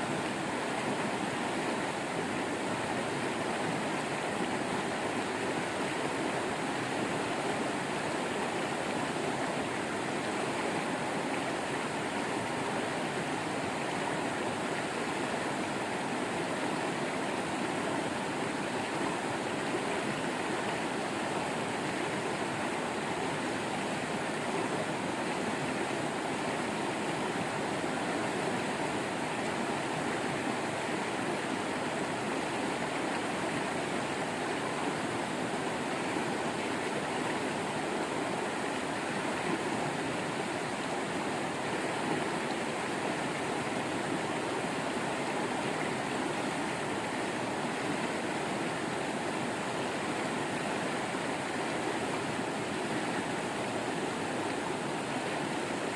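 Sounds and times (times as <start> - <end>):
waterfall and stream rushing: 0.0 - 55.9.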